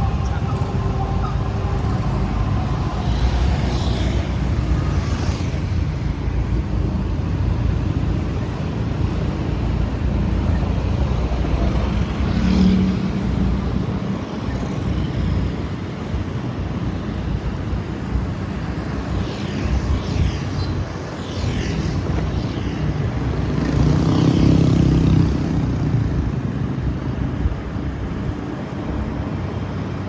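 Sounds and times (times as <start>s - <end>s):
motorbike engine and road rumble: 0.0s - 30.0s
passing traffic: 0.0s - 30.0s.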